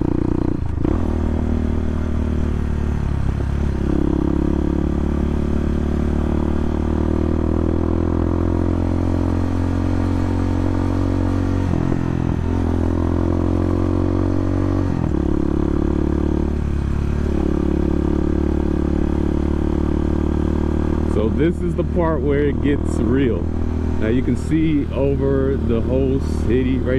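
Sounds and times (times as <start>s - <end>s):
dirt bike engine running: 0.0s - 26.9s.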